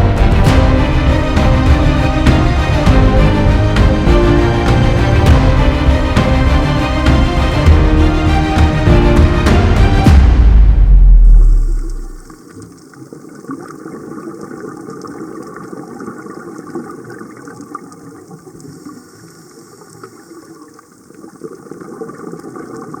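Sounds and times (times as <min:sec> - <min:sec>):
steady water noise: 0:00.0 - 0:23.0.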